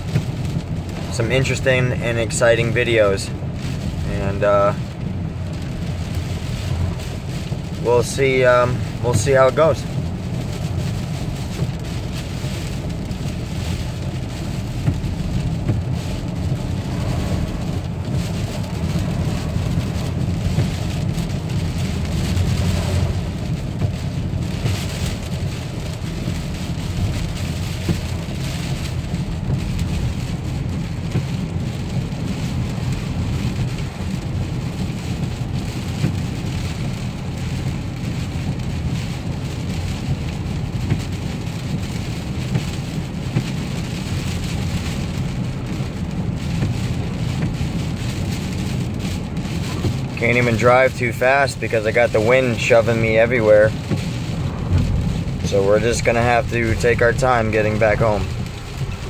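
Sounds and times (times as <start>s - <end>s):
heavy rain beating on car: 0.0s - 59.0s
low rumble of wind and road noise: 0.0s - 59.0s.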